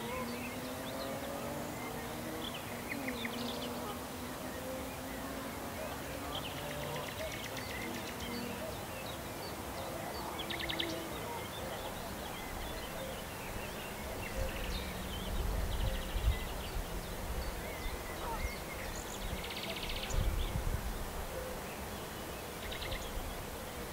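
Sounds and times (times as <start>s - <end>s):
songbirds singing: 0.0s - 23.9s
steady background hiss: 0.0s - 23.9s.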